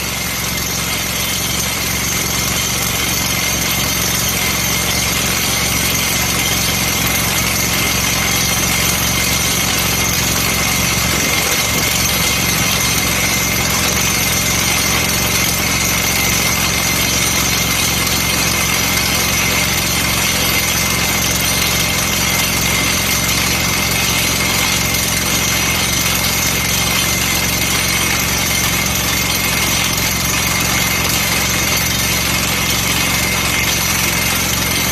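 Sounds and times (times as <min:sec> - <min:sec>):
drill rig engine droning: 0:00.0 - 0:34.9.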